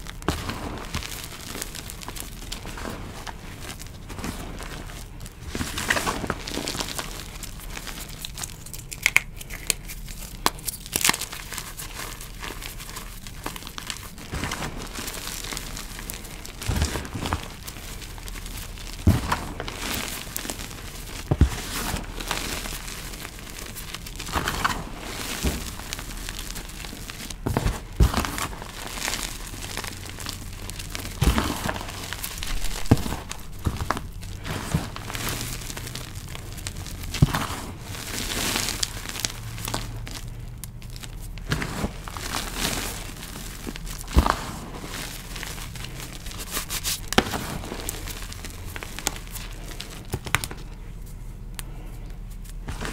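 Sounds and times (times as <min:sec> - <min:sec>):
hands crushing chalk powder: 0:00.0 - 0:52.9.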